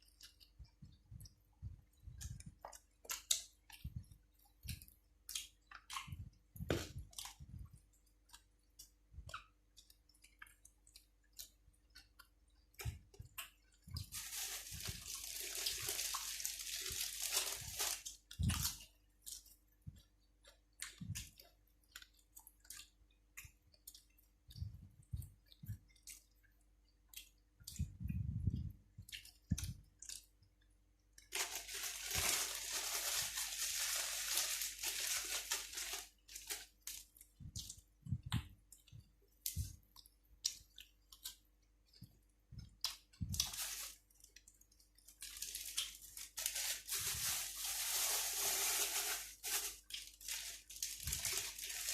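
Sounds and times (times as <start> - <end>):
person chewing crunchy food: 0.0 - 28.0, 28.9 - 46.6, 49.5 - 51.9.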